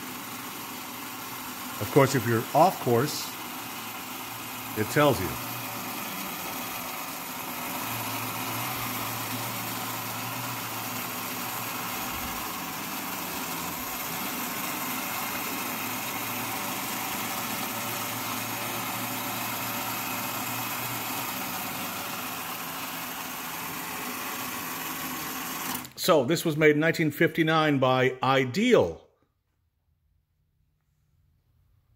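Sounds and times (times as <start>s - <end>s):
toy electric motor humming: 0.0s - 25.9s.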